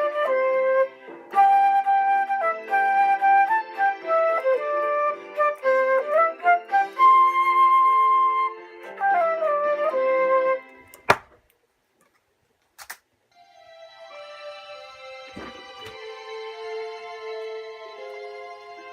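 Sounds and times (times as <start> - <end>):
electronic keyboard melody: 0.0 - 11.1, 13.3 - 18.9.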